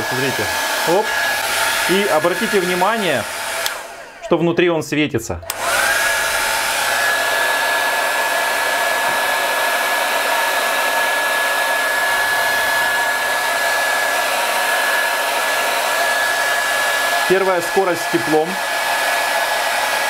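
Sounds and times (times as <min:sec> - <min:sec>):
hair dryer fan whining: 0:00.0 - 0:04.4, 0:05.4 - 0:20.0.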